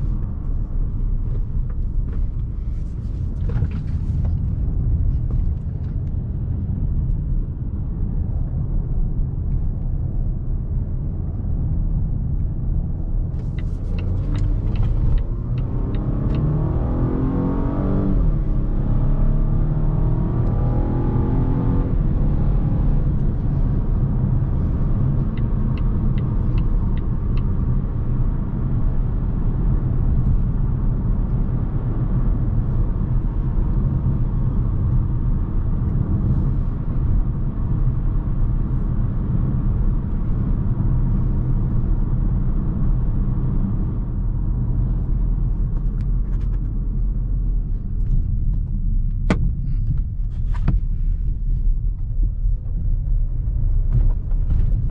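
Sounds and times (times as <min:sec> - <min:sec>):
car engine rumble: 0:00.0 - 0:54.9
road noise: 0:00.0 - 0:54.9.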